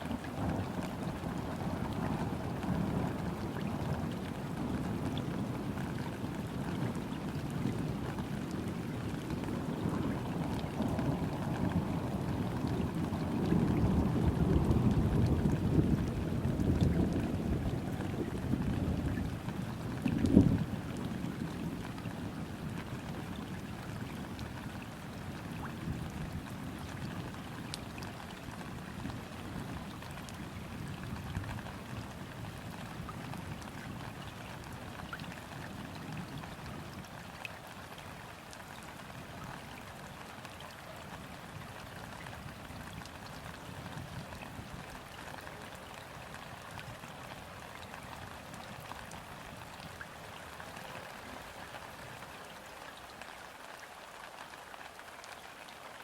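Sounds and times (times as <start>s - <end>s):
rain falling on river water: 0.0s - 56.0s.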